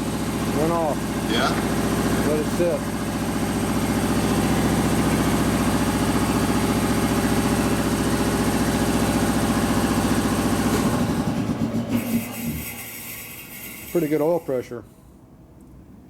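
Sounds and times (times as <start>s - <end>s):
motor running with pulse: 0.0s - 14.7s.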